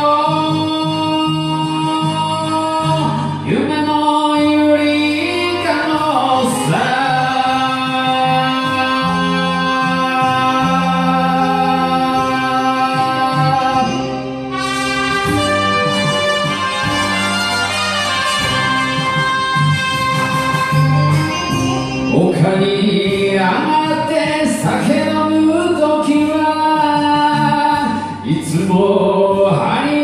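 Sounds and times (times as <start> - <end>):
backing track: 0.0 - 30.0
man singing: 0.0 - 30.0.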